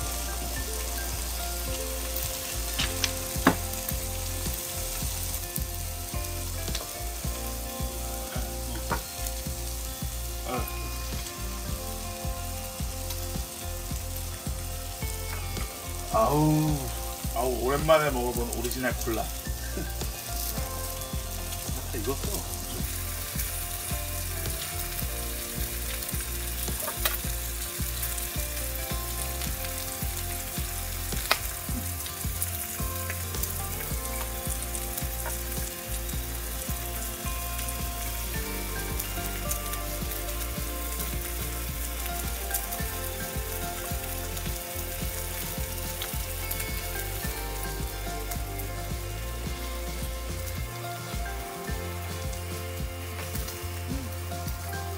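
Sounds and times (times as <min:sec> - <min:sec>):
pork sizzling in pan: 0:00.0 - 0:54.9.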